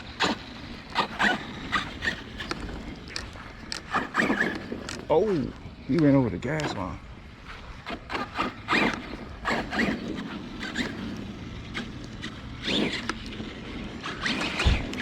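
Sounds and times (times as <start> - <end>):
electric rc car motor revving: 0.0 - 15.0.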